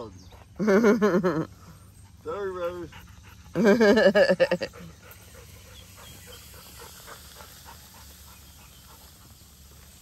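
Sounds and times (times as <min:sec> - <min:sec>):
dog panting quickly: 0:00.0 - 0:00.7, 0:01.7 - 0:09.9.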